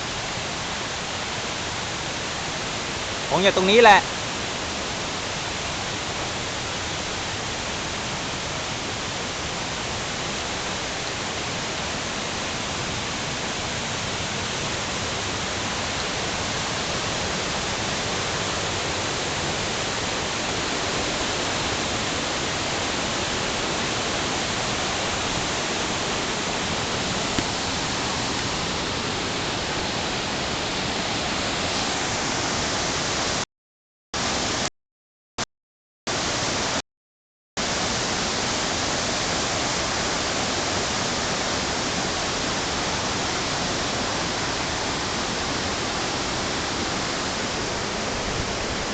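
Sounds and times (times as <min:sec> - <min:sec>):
waterfall rushing: 0:00.0 - 0:33.4, 0:34.2 - 0:34.7, 0:36.1 - 0:36.8, 0:37.6 - 0:48.9.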